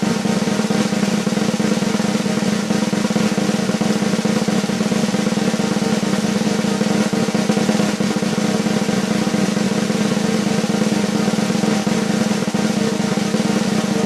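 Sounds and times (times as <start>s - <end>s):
snare drum roll: 0.0s - 14.0s.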